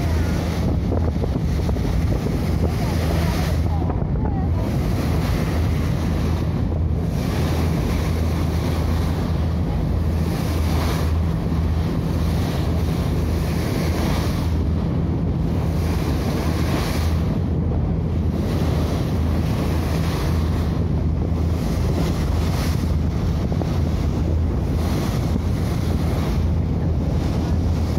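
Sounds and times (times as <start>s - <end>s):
boat engine droning: 0.0s - 27.9s
water rushing past hull: 0.0s - 27.9s
wind buffeting microphone: 0.0s - 27.9s.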